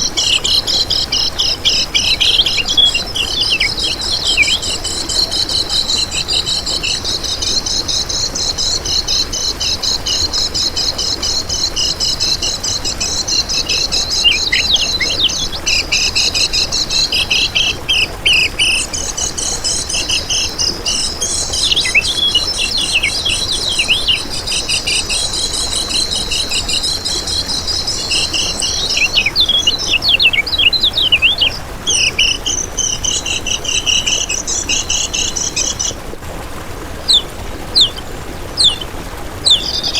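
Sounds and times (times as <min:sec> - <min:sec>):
bird twittering trill: 0:00.0 - 0:36.1, 0:37.0 - 0:39.9.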